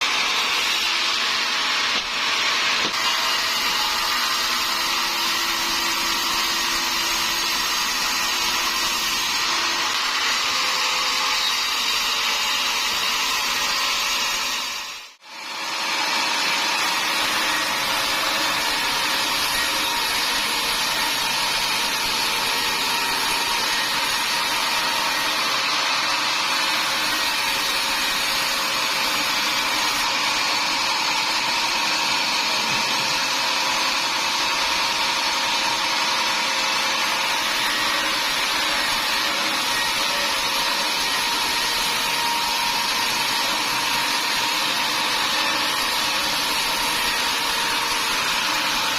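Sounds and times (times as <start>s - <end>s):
sawmill saw running: 0.0s - 48.9s.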